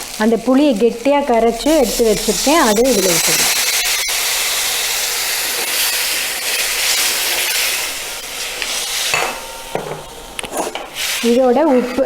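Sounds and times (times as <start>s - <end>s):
liquid sizzling in hot oil: 0.0s - 12.0s.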